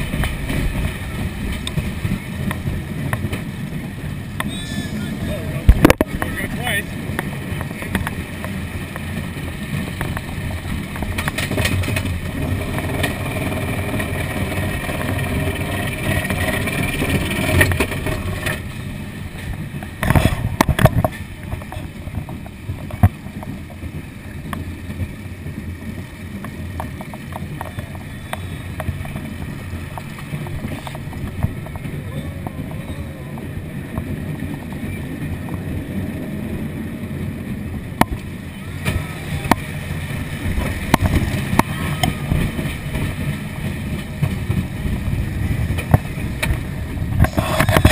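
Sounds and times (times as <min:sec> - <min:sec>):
roller coaster rumbling on track: 0:00.0 - 0:47.9.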